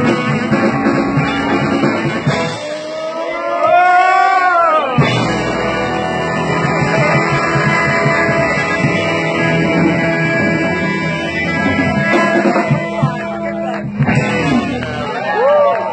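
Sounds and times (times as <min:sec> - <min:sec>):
live blues band playing: 0:00.0 - 0:15.9.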